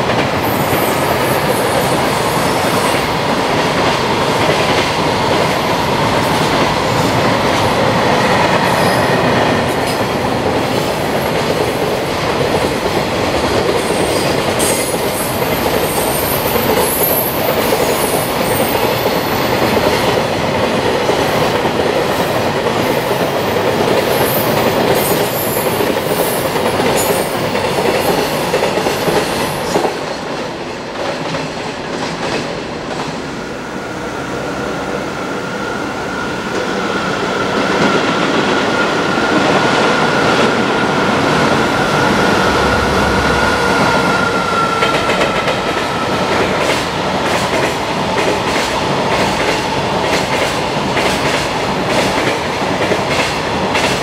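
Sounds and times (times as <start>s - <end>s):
freight train rolling rumble: 0.0s - 54.0s.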